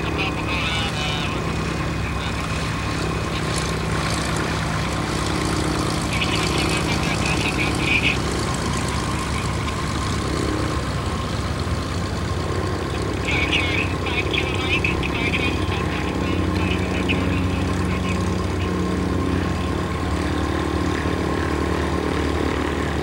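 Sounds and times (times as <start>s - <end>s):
propeller plane engines droning: 0.0s - 23.0s.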